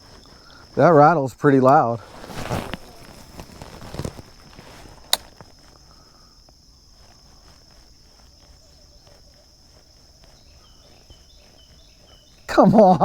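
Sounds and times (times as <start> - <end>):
insects droning: 0.0 - 13.0
faint ticks: 1.6 - 12.6.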